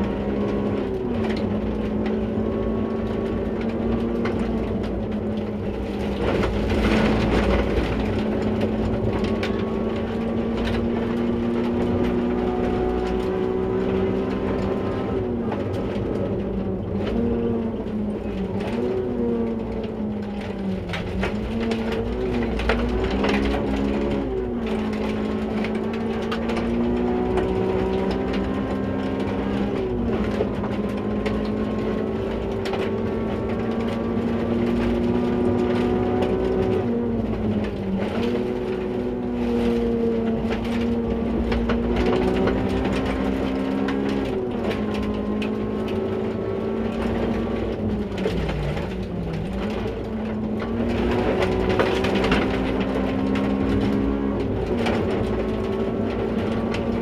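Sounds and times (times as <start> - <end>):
rally car engine running hard: 0.0 - 57.0.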